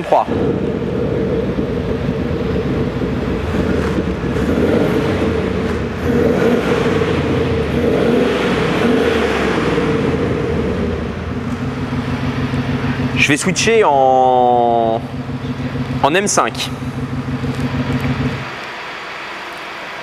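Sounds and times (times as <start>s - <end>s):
deep engine rumble from speaker: 0.0s - 20.0s.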